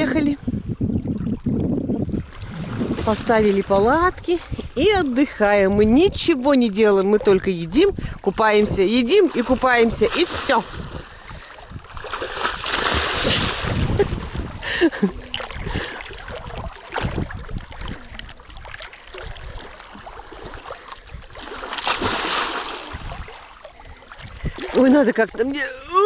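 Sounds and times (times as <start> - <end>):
water splashing and sloshing: 0.0 - 26.0
wind rumbling on microphone: 0.0 - 26.0.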